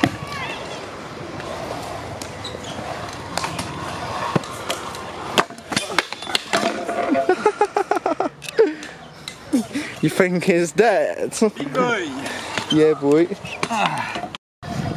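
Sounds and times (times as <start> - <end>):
scooter wheels rolling on concrete: 0.0 - 14.9.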